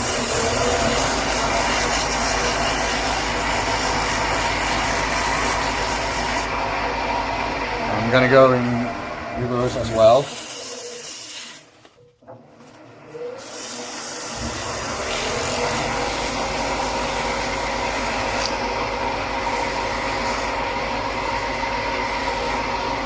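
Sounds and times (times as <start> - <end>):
sandpaper rubbing on spinning wood: 0.0 - 6.5, 7.9 - 11.8, 13.4 - 23.0
wood lathe running: 0.0 - 11.7, 12.8 - 23.0.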